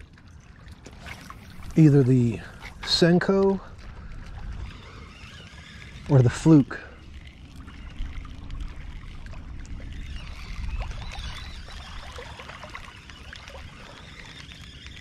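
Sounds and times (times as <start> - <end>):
water lapping against boat hull: 0.0 - 15.0
wind rumble on microphone: 0.0 - 15.0.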